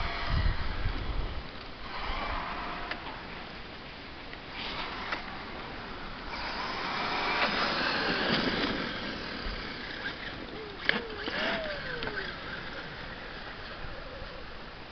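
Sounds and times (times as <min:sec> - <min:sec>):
electric motors whining: 0:00.0 - 0:03.6, 0:04.4 - 0:14.9.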